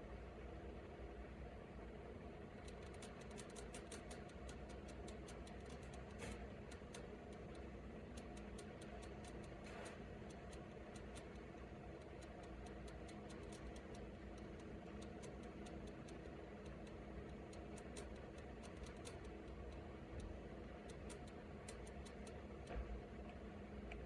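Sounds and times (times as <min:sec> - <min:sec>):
steady low hum: 0:00.0 - 0:24.0
faint irregular clicks: 0:02.5 - 0:24.0.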